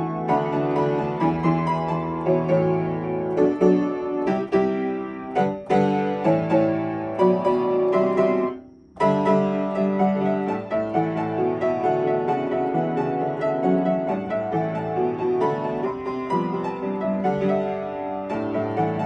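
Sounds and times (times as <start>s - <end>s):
upright piano playing: 0.0s - 19.0s.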